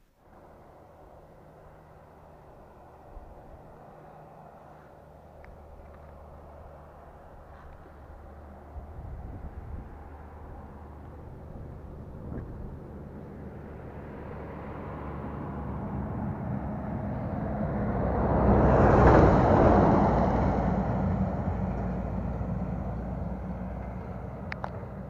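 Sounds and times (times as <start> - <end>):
truck passing: 0.1 - 25.0.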